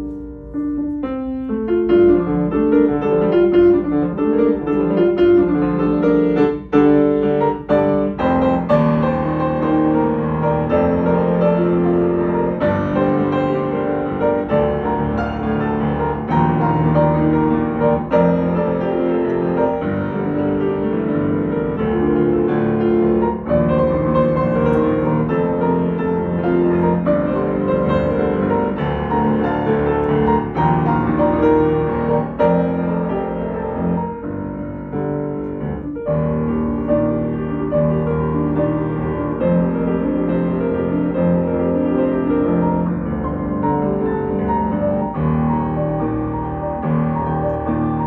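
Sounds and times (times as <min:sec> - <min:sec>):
solo grand piano: 0:00.0 - 0:48.0.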